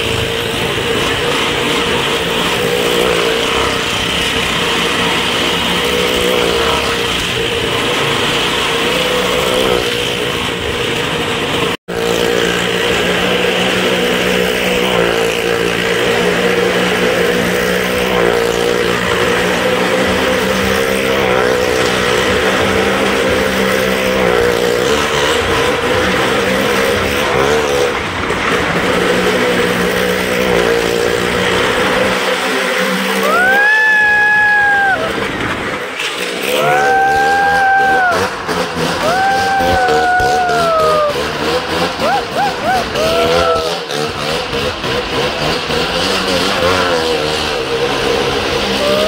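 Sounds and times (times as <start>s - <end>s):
motorcycle engines droning: 0.0s - 49.0s.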